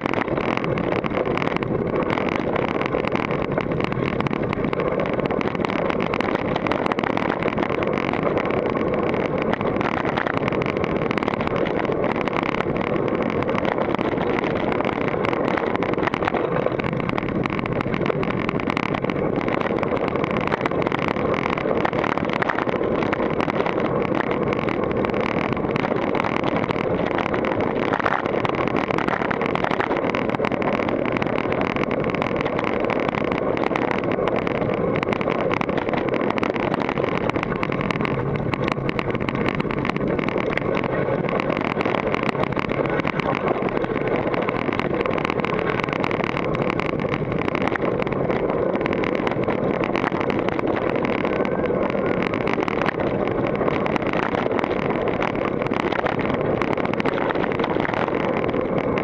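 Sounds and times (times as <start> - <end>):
mountain bike rattling over rocks: 0.0 - 59.0
tyre noise: 0.0 - 59.0
wind on microphone: 0.0 - 59.0.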